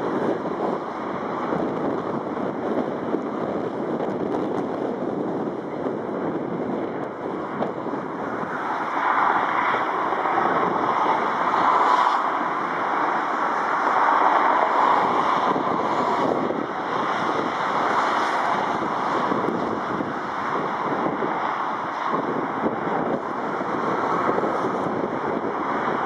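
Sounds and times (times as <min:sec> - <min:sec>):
distant jet rolling out: 0:00.0 - 0:26.0
wind on microphone: 0:00.0 - 0:26.0.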